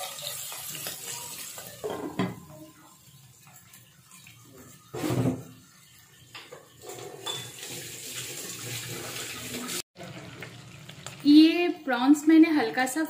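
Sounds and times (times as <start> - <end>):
prawns sizzling in hot oil: 0.0 - 6.8, 7.4 - 13.0.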